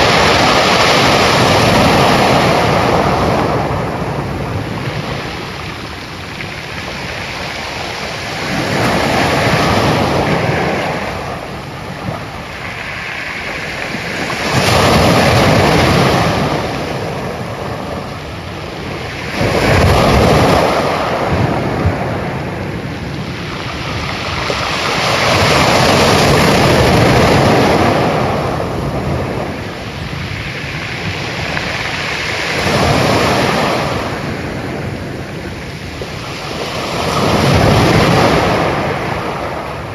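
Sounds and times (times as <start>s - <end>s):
waves breaking ashore: 0.0s - 39.9s.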